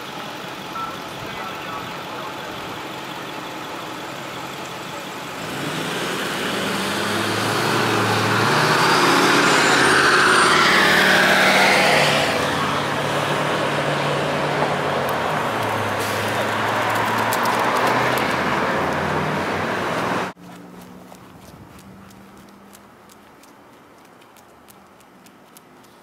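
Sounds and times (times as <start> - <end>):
background traffic: 0.0 - 26.0
vehicle passing: 5.0 - 26.0.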